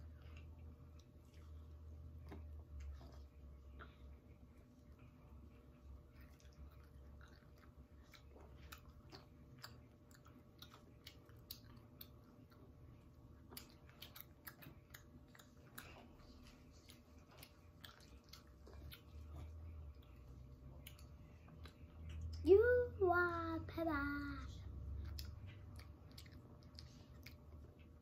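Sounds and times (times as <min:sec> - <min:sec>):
child chewing with mouth clicks: 0:00.0 - 0:22.8, 0:23.8 - 0:28.0.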